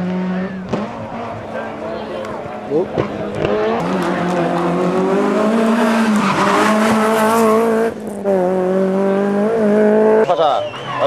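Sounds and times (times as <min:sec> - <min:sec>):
rally car engine at high revs: 0:00.0 - 0:10.8.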